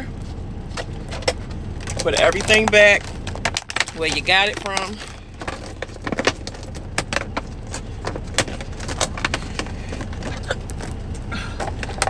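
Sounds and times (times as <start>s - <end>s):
steady low hum: 0.0s - 12.0s
household items clicking and rattling: 0.8s - 12.0s.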